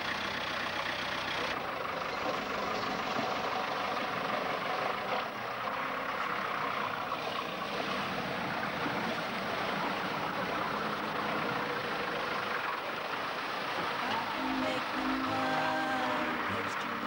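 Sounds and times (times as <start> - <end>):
pickup truck engine running: 0.0 - 17.0
water rushing and splashing: 1.6 - 17.0.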